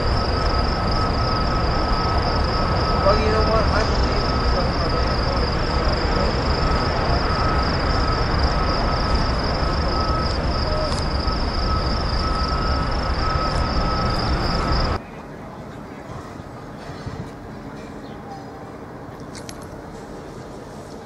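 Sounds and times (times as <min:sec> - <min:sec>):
high-pitched whine: 0:00.0 - 0:21.0
train rumbling past: 0:00.0 - 0:21.0.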